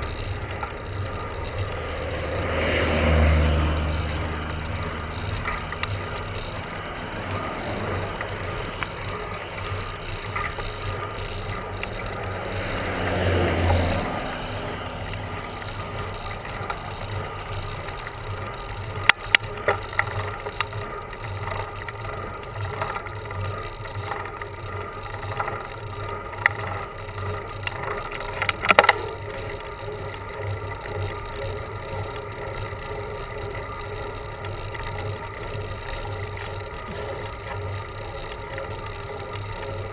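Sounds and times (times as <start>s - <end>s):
bicycle tyre and drivetrain noise: 0.0s - 39.9s
sharp rattling clicks: 0.0s - 39.9s.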